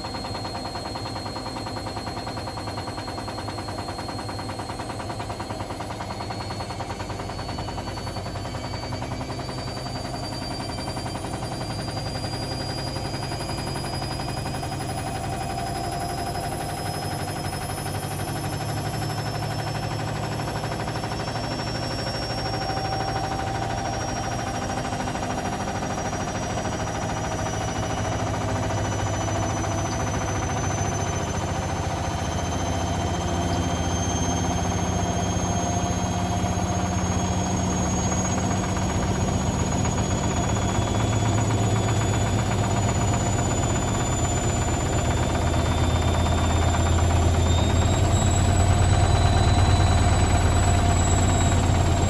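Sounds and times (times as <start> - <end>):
washing machine spin whine: 0.0 - 52.0.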